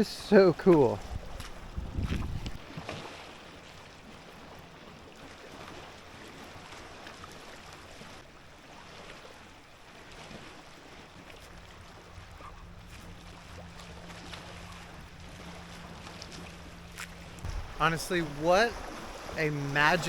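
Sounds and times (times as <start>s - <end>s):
water lapping around a kayak: 0.0s - 20.0s
faint splashes: 0.3s - 20.0s.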